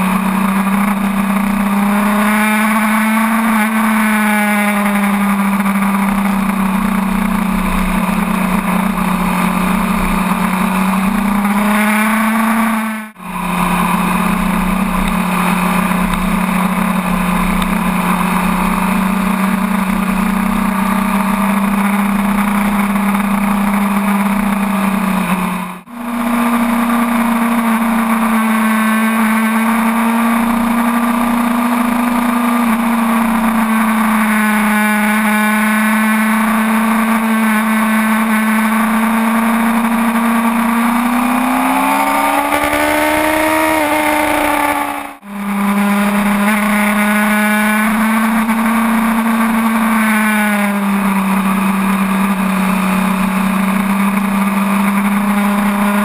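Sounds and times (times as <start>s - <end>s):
motorcycle engine at high speed: 0.0s - 56.0s.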